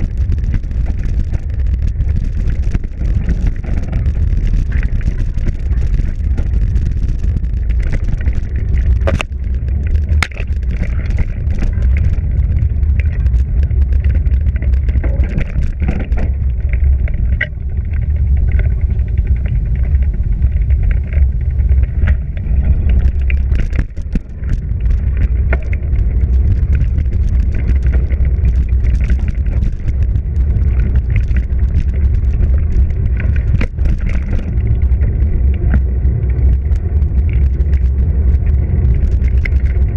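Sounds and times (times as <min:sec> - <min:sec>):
bike clicks and rattles: 0:00.0 - 0:39.9
wind and tyre rumble: 0:00.0 - 0:39.9.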